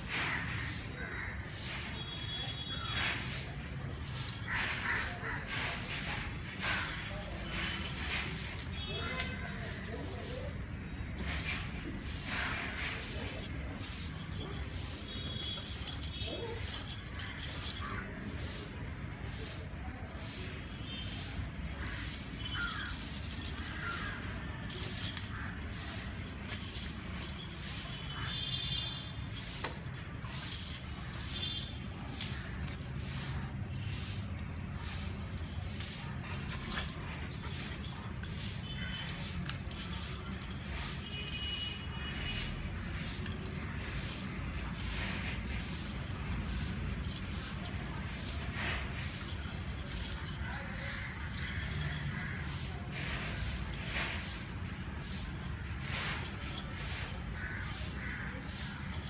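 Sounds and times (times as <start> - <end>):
dog collar bell jingling: 2.4 - 5.6, 6.6 - 20.2, 21.3 - 59.0.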